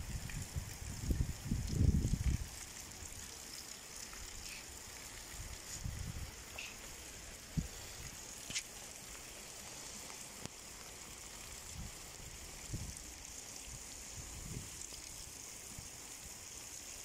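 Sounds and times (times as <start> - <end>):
rain hissing on wet ground: 0.0 - 17.0.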